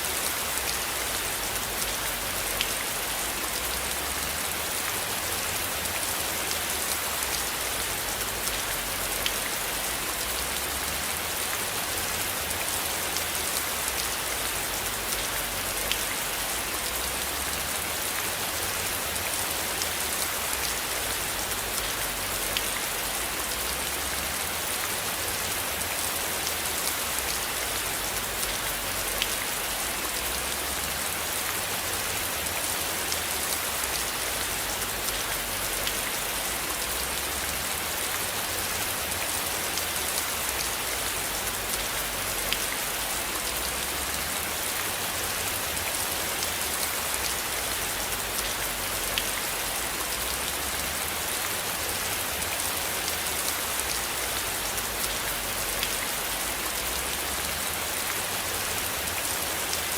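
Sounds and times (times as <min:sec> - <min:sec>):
rain drops ticking: 0:00.0 - 0:59.9
rain falling on a surface: 0:00.0 - 0:59.9.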